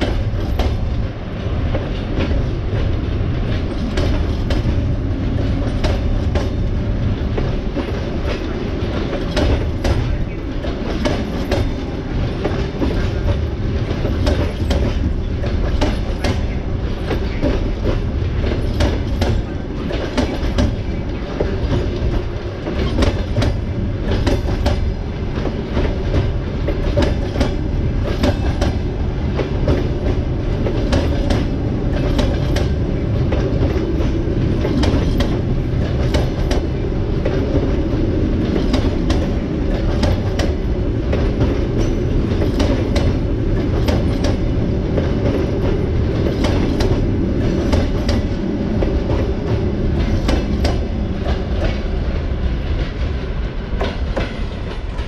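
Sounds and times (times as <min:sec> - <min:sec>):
clickety-clack over rail joints: 0:00.0 - 0:55.0
train wheels rumbling on rail: 0:00.0 - 0:55.0.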